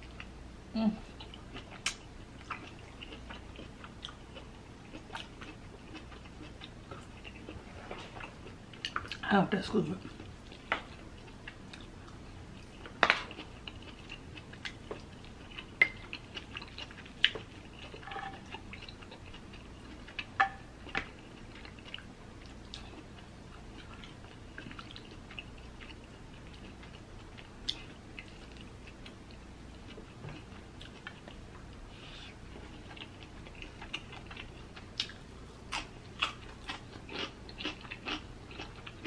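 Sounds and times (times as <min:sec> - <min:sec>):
chewing food: 0:01.0 - 0:09.3, 0:10.0 - 0:39.0.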